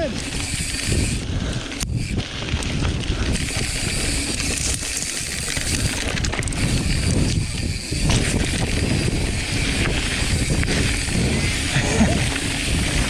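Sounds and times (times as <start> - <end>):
bike rattling and clicking: 0.0 - 13.0
bike tyres on dirt: 0.0 - 13.0
wind rushing on microphone: 0.0 - 13.0.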